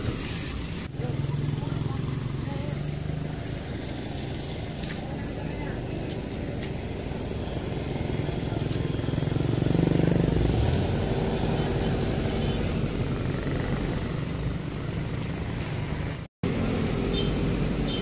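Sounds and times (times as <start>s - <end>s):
street traffic noise: 0.0s - 18.0s
vehicle engine passing by: 0.0s - 18.0s.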